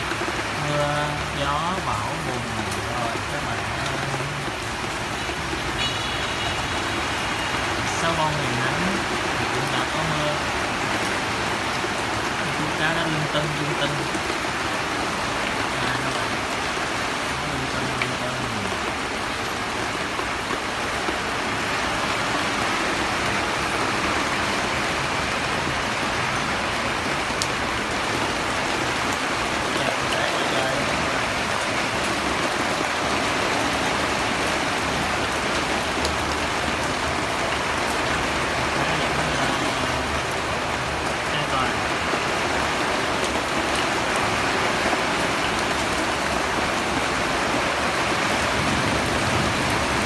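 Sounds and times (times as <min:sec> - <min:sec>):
individual raindrop hits: 0:00.0 - 0:50.0
rain falling on pond: 0:00.0 - 0:50.0.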